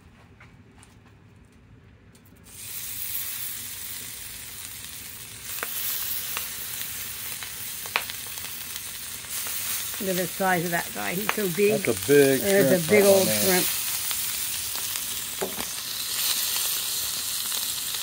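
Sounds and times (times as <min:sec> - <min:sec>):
shrimp sizzling on griddle: 0:02.5 - 0:18.0.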